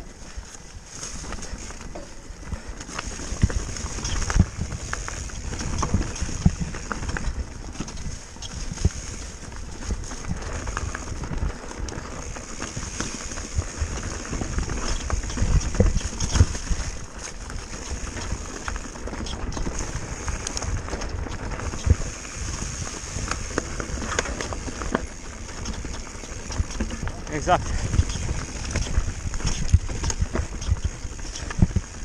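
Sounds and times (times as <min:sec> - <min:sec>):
tyres crunching over stones: 0:00.4 - 0:32.0
bike rattling and knocking: 0:01.1 - 0:32.0.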